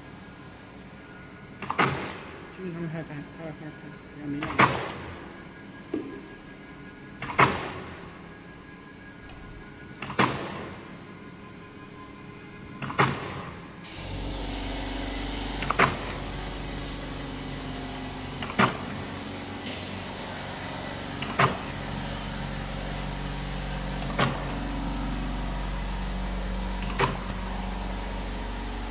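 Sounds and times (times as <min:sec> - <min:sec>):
machine motor humming: 0:01.8 - 0:28.9.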